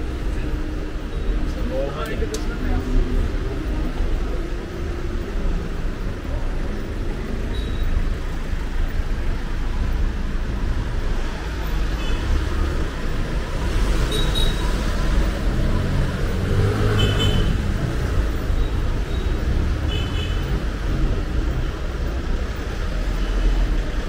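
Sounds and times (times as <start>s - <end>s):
passing cars rumbling: 0.0s - 24.0s.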